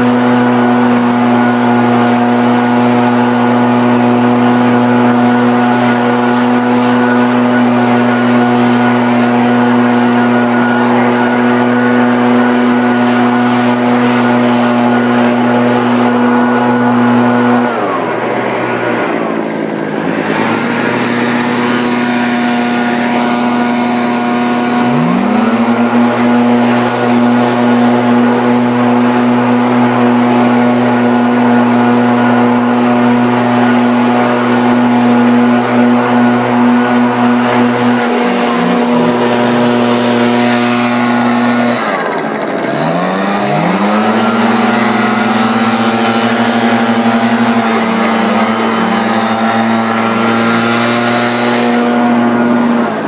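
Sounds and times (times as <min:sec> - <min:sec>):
leaf blower engine: 0:00.0 - 0:53.0
rushing air: 0:00.0 - 0:53.0.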